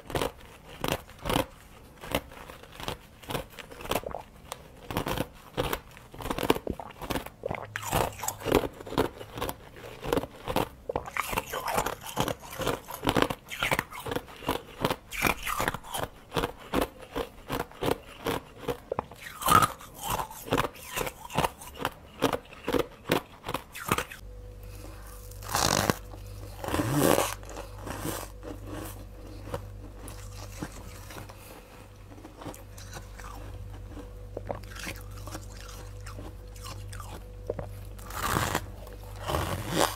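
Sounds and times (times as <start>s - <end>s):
crunching of freezer frost: 0.0s - 39.9s
steady low hum: 0.0s - 39.9s.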